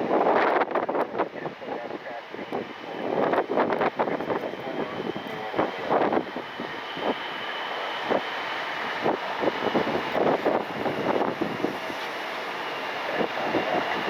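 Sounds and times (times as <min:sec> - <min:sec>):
distant jet engines whining: 0:00.0 - 0:14.0
wind buffeting microphone: 0:00.0 - 0:14.0.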